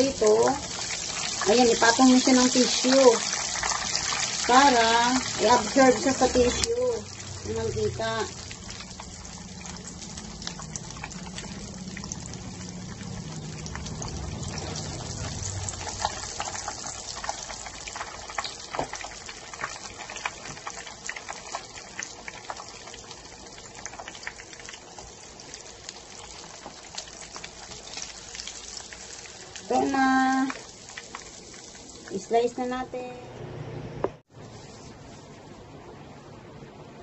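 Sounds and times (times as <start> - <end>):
oil sizzling in a pan: 0.0 - 32.9.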